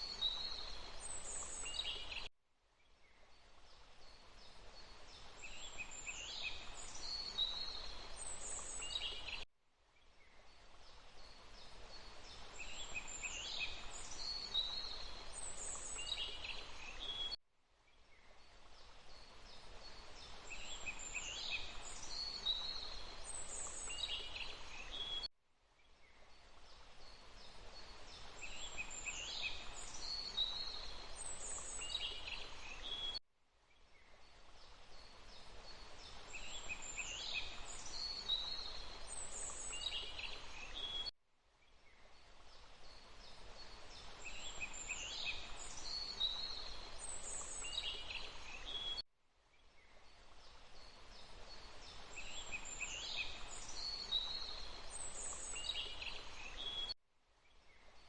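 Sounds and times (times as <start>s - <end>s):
forest birds chirping: 0.0s - 58.0s.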